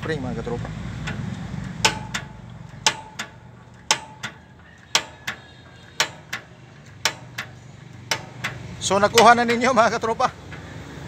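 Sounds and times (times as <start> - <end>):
power hammer metallic clanks: 1.0 - 11.0.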